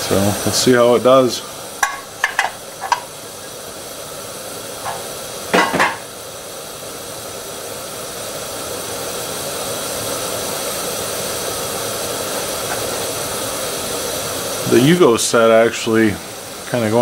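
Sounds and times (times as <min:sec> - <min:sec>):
gas stove burner hissing: 0:00.0 - 0:17.0.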